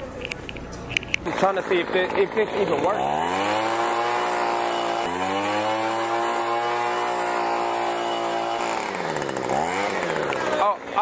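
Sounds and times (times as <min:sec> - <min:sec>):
leaf blower whine: 0:01.2 - 0:11.0.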